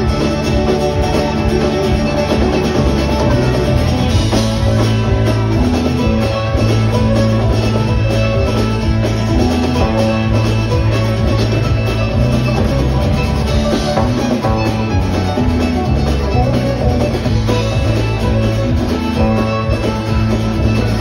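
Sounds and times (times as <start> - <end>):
bass line: 0.0 - 21.0
drum kit: 0.0 - 21.0
electric guitars: 0.0 - 21.0
fiddle: 0.0 - 21.0.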